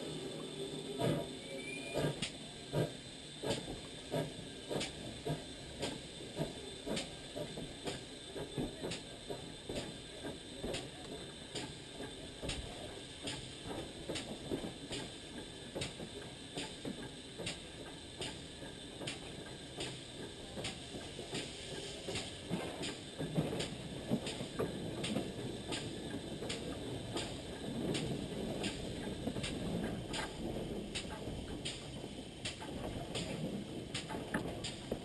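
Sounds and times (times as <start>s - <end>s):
steam locomotive beat: 0.0s - 35.0s
wheels rumbling on rails: 0.0s - 35.0s.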